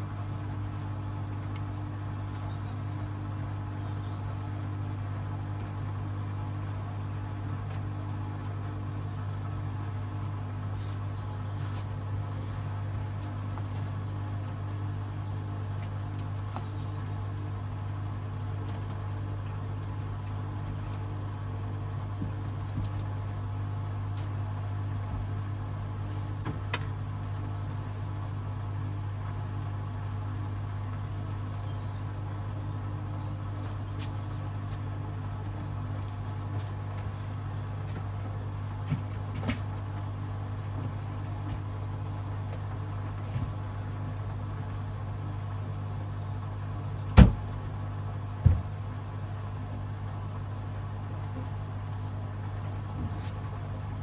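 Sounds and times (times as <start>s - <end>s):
washing machine humming: 0.0s - 54.0s.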